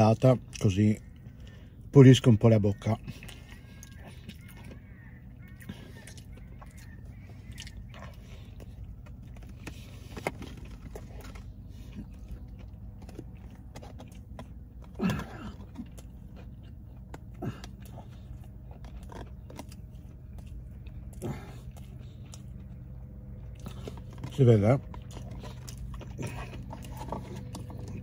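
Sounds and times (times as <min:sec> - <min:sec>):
low car cabin hum: 0:00.0 - 0:28.0
person chewing: 0:02.8 - 0:28.0.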